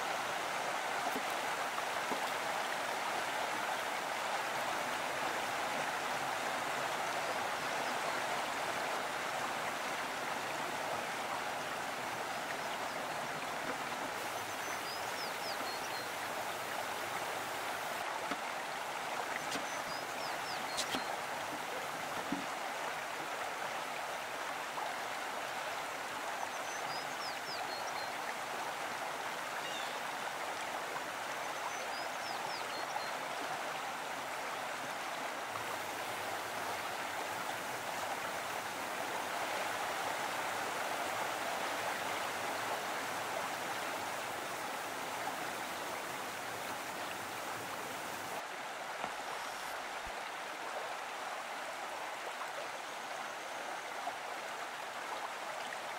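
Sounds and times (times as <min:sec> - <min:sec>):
stream rushing water: 0:00.0 - 0:55.9.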